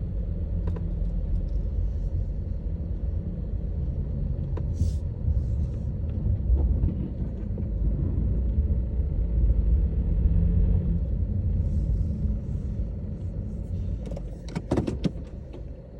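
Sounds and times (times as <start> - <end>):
engine and road rumble: 0.0 - 15.9.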